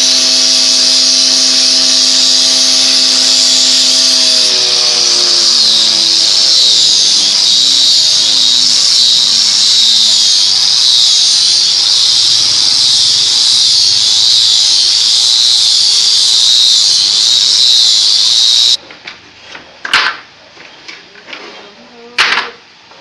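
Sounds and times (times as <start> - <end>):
high-pitched squealing whine: 0.0 - 18.8.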